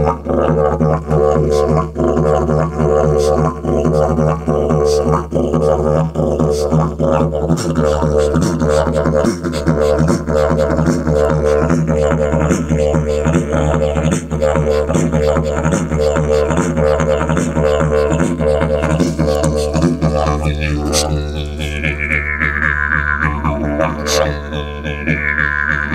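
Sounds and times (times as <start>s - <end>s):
didgeridoo drone: 0.0s - 25.9s.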